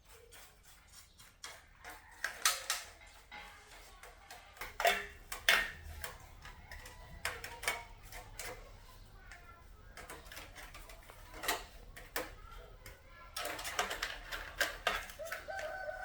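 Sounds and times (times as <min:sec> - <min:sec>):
tools clicking on workbench: 0:01.2 - 0:16.0.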